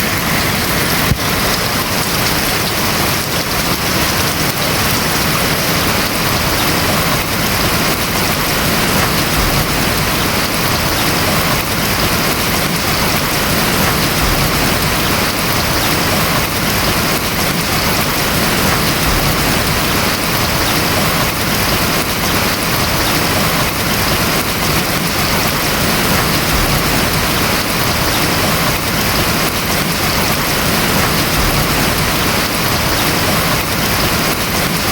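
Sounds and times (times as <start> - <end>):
rain on a roof: 0.0 - 34.9.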